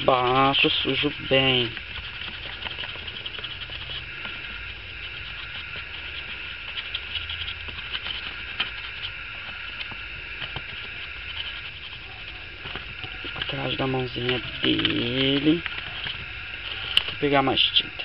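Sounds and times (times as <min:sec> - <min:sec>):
paintbrush scratching and tapping: 0:00.0 - 0:17.8
high-pitched chirring: 0:00.0 - 0:18.0.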